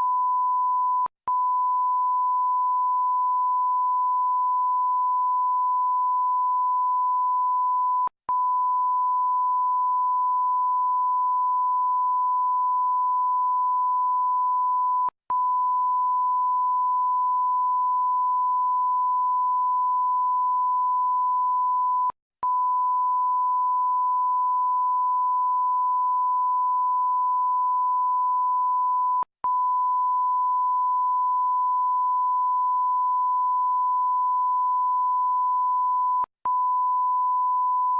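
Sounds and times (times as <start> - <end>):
censor beep tone: 0.0 - 37.9.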